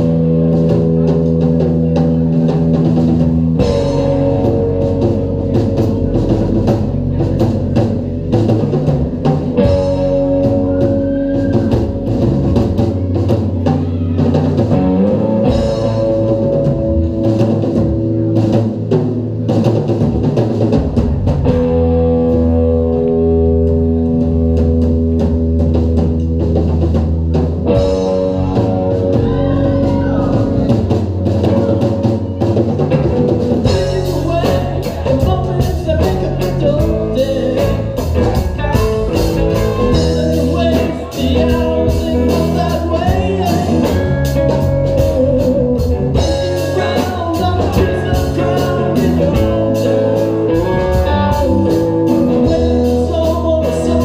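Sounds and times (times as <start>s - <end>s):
bass guitar: 0.0s - 54.0s
drum kit and cymbals: 0.0s - 54.0s
electric guitar chords: 0.0s - 54.0s.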